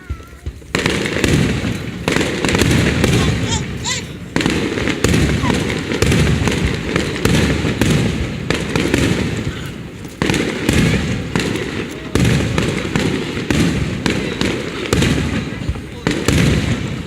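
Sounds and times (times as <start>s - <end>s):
fireworks booming: 0.0s - 17.0s
fireworks crackle: 0.0s - 17.0s
rumbling echo: 0.0s - 17.0s.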